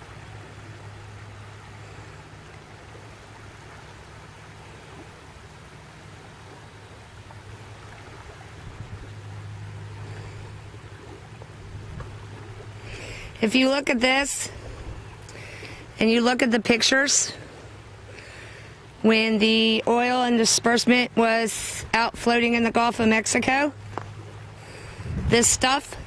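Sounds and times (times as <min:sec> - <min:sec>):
faint outdoor hiss: 0:00.0 - 0:26.0
low hum: 0:00.0 - 0:26.0.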